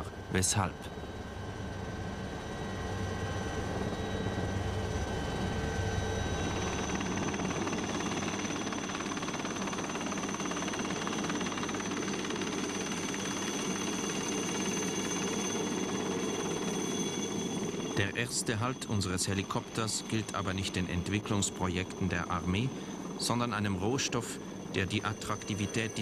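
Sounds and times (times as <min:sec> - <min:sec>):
helicopter hovering: 0:00.0 - 0:26.0
steady high whine: 0:00.0 - 0:26.0.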